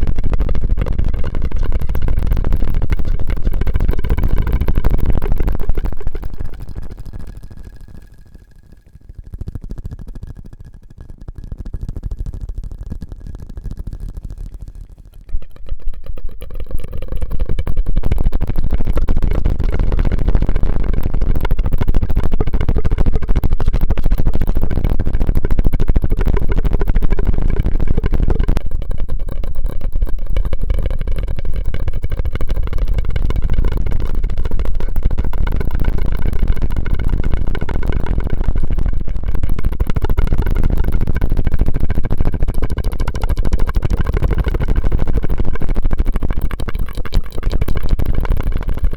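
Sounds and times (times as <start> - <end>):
mouth and straw clicks: 1.0 - 48.9.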